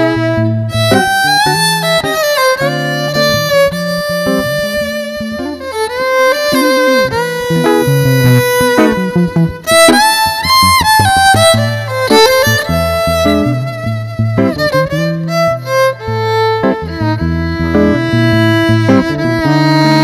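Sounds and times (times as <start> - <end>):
electric guitar chords: 0.0 - 20.0
violin sliding bowed notes: 0.0 - 20.0.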